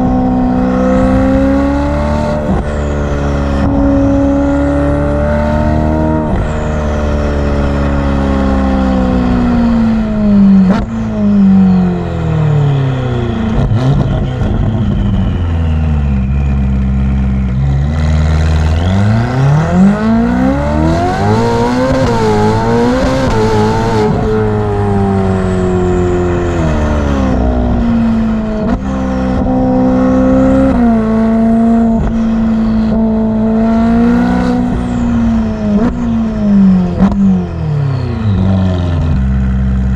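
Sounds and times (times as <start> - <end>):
sports car engine revving: 0.0 - 39.9.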